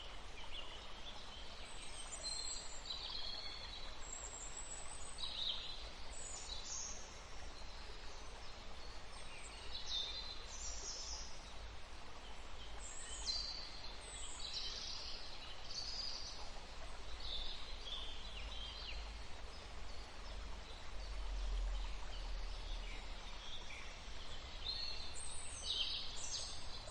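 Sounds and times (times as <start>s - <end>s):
small birds singing: 0.0s - 26.9s
small stream rushing: 0.0s - 26.9s.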